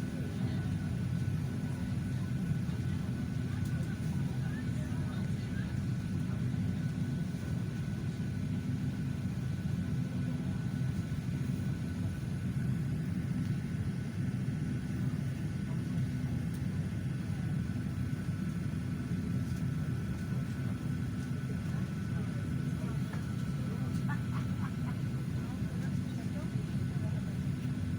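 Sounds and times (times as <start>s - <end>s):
airliner cabin hum: 0.1s - 27.9s.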